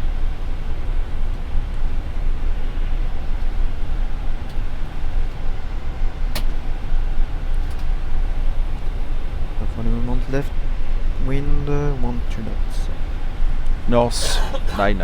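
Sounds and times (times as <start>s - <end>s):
aircraft flight-deck rumble: 0.0s - 15.0s.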